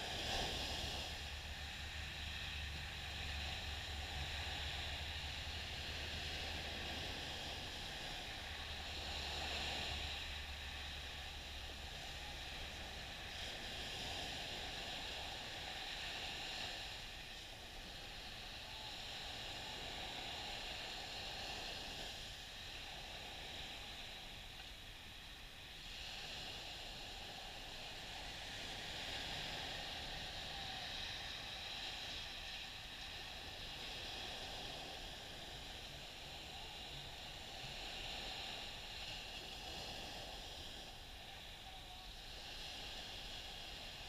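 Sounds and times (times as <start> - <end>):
small waves breaking on beach: 0.0 - 44.0.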